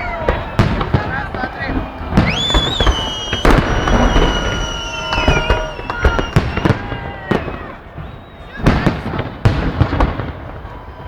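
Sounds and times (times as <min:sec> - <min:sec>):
firework bangs: 0:00.0 - 0:11.0
firework whistling: 0:00.0 - 0:11.0.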